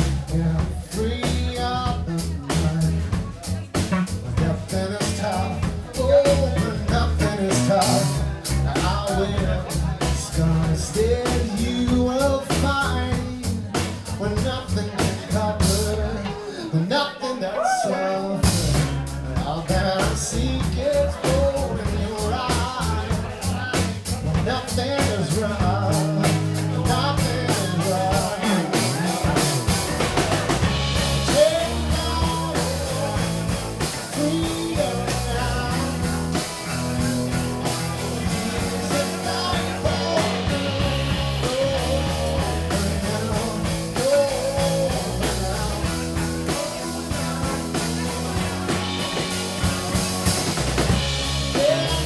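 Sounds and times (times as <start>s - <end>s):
live rock band playing: 0.0s - 52.0s
person singing lead vocal: 0.0s - 52.0s.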